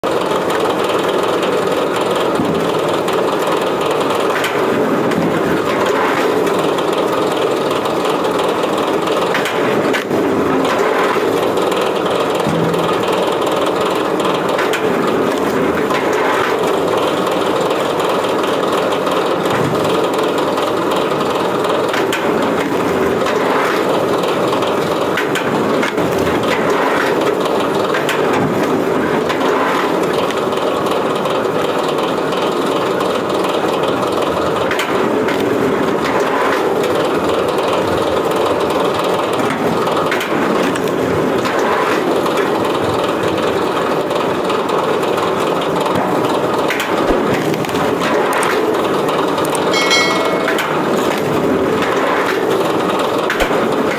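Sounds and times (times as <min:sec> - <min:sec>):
log splitter running: 0:00.0 - 0:53.9.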